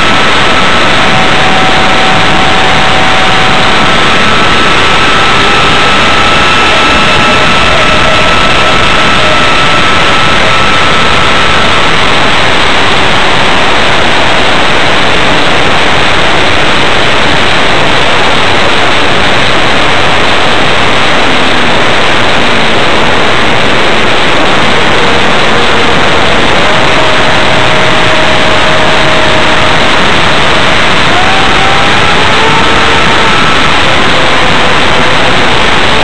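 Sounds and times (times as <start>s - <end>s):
faint motor and propeller whine: 0.0s - 36.0s
loud wind roar: 0.0s - 36.0s.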